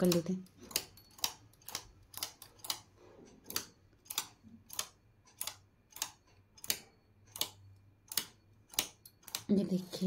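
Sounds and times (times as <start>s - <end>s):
knitting machine needles clicking: 0.0s - 10.0s.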